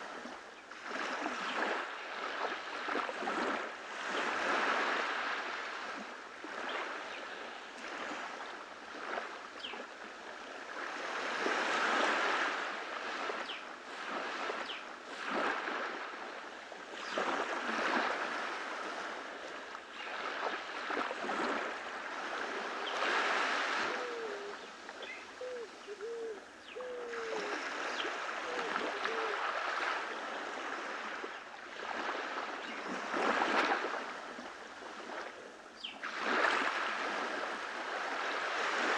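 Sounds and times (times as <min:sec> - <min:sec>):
small waves breaking on beach: 0:00.0 - 0:38.9.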